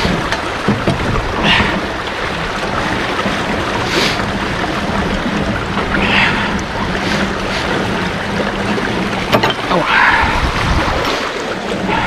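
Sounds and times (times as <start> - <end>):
water rushing through sluice gate: 0.0 - 12.0.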